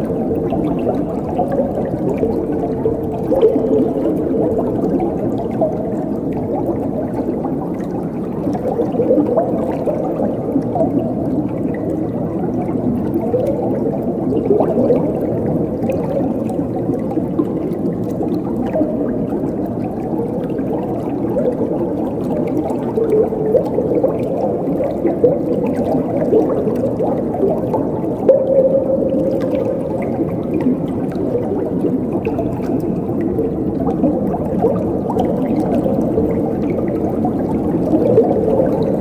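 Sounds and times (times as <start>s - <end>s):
water babbling and gurgling: 0.0s - 39.0s.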